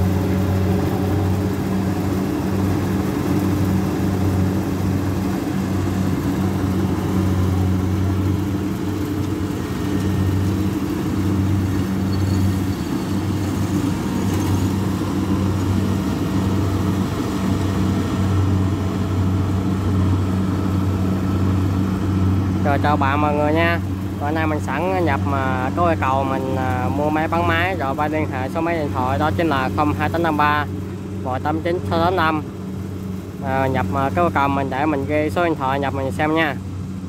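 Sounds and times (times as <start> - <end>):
combine harvester engine droning: 0.0 - 37.0.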